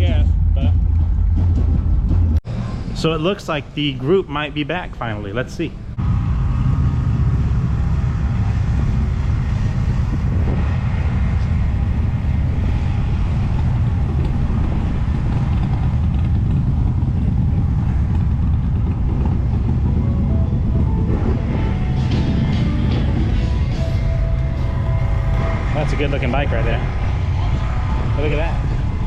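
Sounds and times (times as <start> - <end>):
motorcycle engines rumbling: 0.0 - 29.0.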